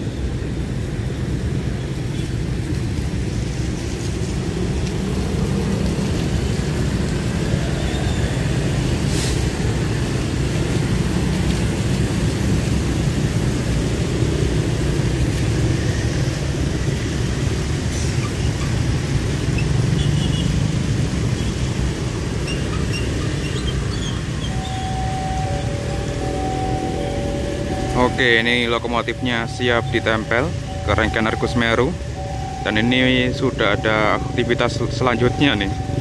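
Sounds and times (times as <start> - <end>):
locomotive engine rumbling: 0.0 - 36.0.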